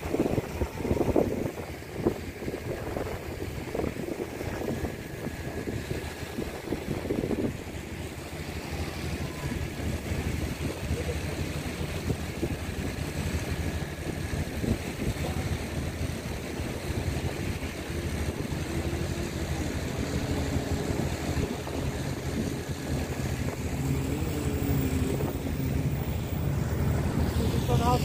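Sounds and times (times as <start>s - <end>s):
distant jet ski engine droning: 0.0s - 28.0s
wind noise on microphone: 0.0s - 28.0s.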